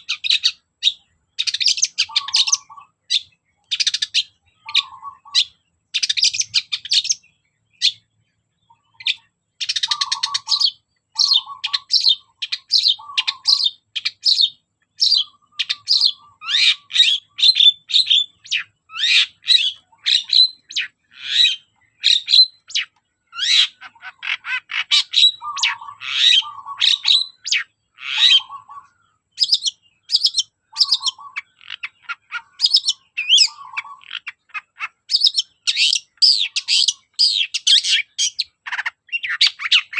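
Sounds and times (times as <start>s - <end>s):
bird singing chirps and chatter: 0.0s - 39.9s.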